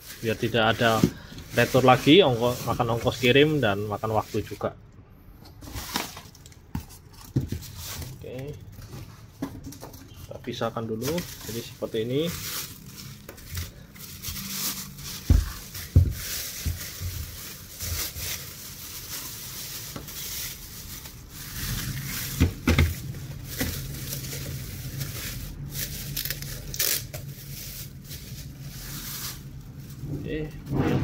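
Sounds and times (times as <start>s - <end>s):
plastic bags crinkling: 0.0s - 4.8s, 5.6s - 30.7s.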